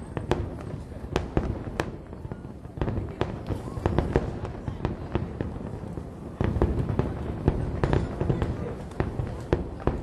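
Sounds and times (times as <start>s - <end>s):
fireworks bursting with sharp bangs: 0.0s - 10.0s.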